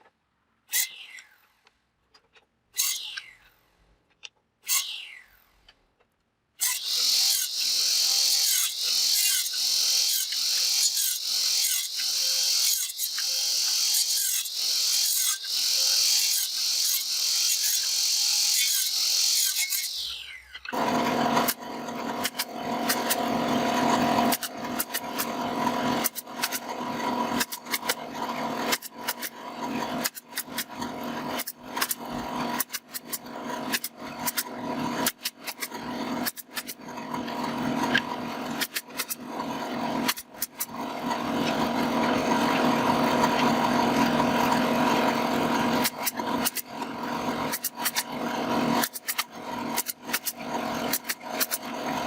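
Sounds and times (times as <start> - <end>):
hand tool rasping wood: 6.6 - 52.0.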